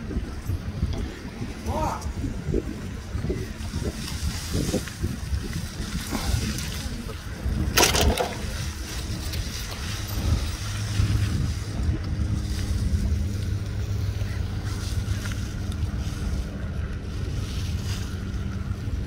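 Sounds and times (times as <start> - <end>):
wind rumbling on microphone: 0.0 - 19.0
loud rustle: 3.4 - 19.0.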